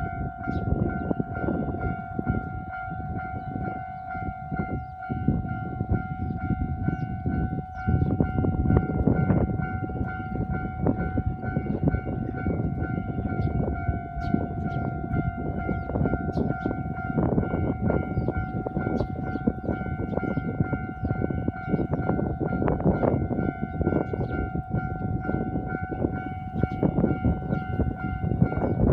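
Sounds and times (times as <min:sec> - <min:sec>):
level crossing warning bell: 0:00.0 - 0:28.9
train rumbling: 0:00.0 - 0:28.9.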